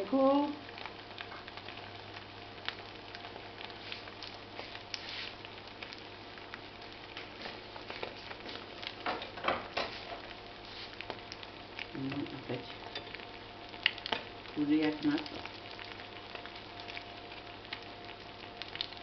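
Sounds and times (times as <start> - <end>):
omelette frying in oil: 0.0 - 19.0.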